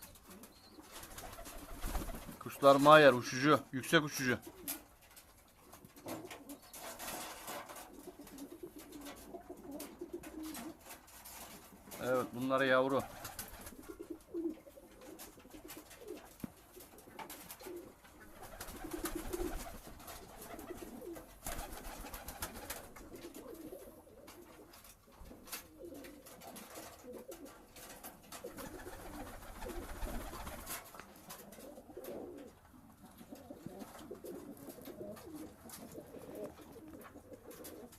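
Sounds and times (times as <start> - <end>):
pigeons cooing: 0.0 - 3.1, 4.1 - 7.1, 7.8 - 10.9, 12.9 - 37.9.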